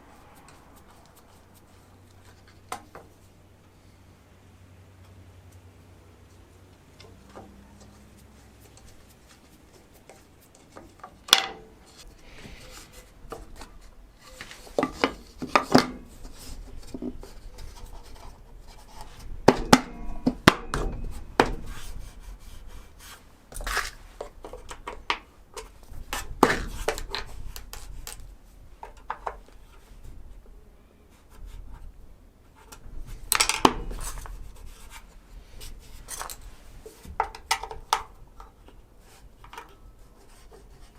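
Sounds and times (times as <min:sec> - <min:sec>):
rubbing and scraping wood: 0:00.0 - 0:03.9, 0:06.2 - 0:30.4, 0:31.1 - 0:40.9.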